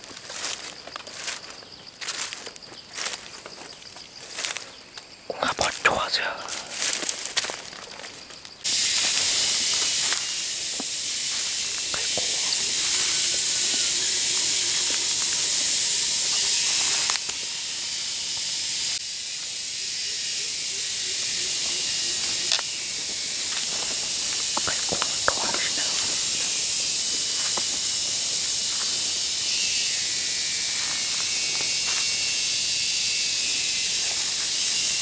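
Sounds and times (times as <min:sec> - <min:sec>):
high-pitched hiss: 0:00.0 - 0:35.0.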